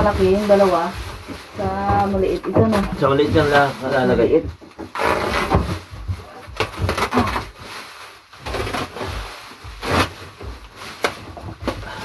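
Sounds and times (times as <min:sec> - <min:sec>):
plastic rustling: 0:00.0 - 0:12.0.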